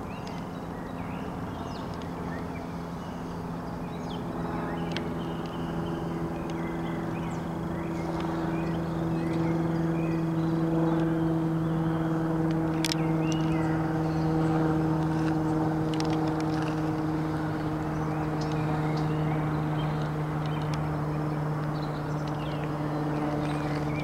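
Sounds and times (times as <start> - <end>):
bird chirping: 0.0 - 24.0
steady low hum: 0.0 - 24.0.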